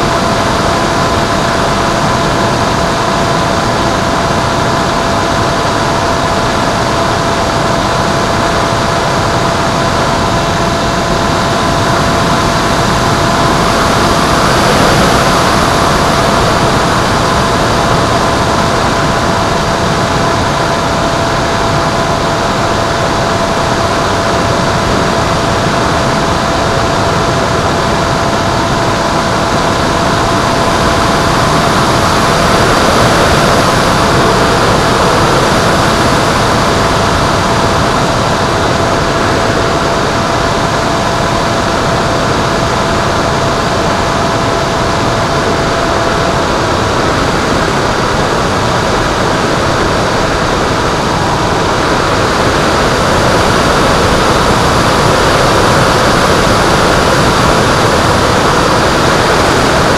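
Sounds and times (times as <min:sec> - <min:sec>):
faint motor whine: 0:00.0 - 0:59.9
propeller noise: 0:00.0 - 0:59.9
wind rush: 0:00.0 - 0:59.9.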